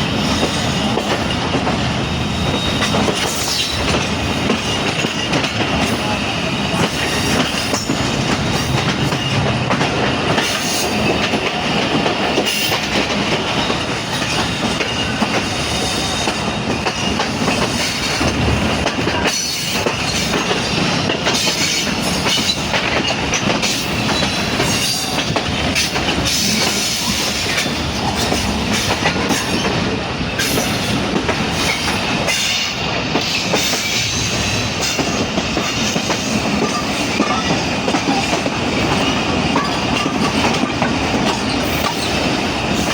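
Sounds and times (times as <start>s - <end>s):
train wheels clattering over joints: 0.0s - 42.9s.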